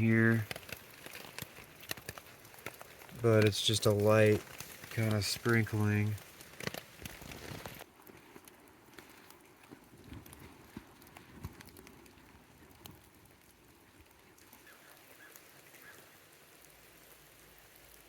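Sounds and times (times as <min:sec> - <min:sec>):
rain drops ticking on tent fabric: 0:00.0 - 0:18.0.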